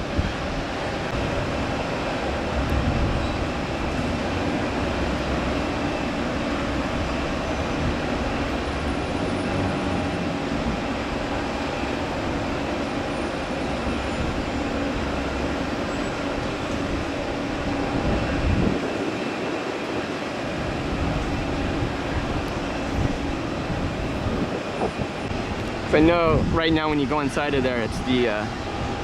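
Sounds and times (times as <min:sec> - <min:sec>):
rumble of vehicles and machinery: 0:00.0 - 0:29.0.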